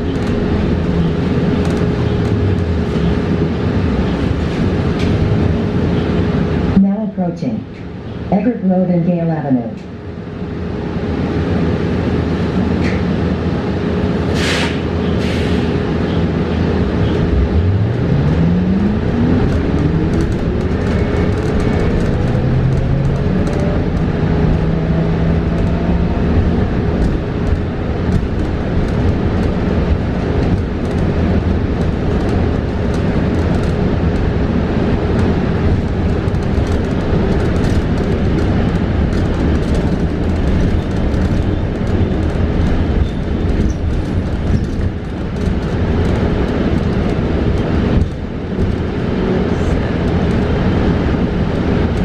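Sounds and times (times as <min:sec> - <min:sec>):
road and cabin rumble: 0:00.0 - 0:08.7, 0:09.5 - 0:52.0
constant hum: 0:00.0 - 0:52.0.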